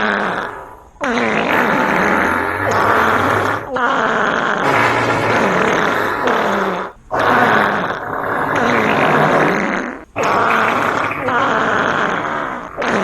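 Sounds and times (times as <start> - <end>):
long loud farts: 0.0 - 13.0.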